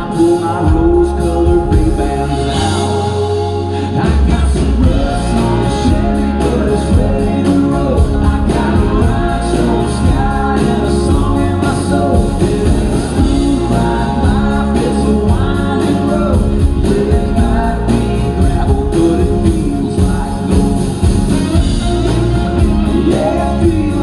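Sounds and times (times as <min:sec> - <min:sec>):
country band playing: 0:00.0 - 0:24.0
person singing: 0:00.0 - 0:24.0.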